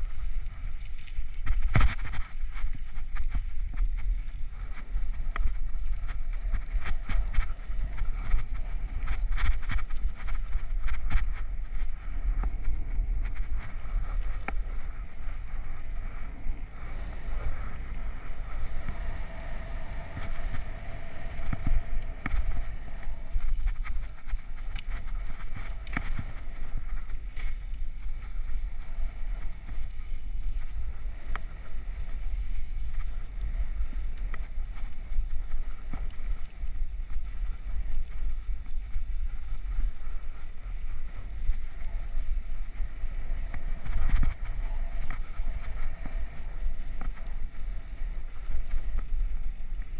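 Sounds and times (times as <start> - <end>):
bicycle tyre noise on asphalt: 0.0 - 49.9
wind rumble on microphone: 0.0 - 49.9.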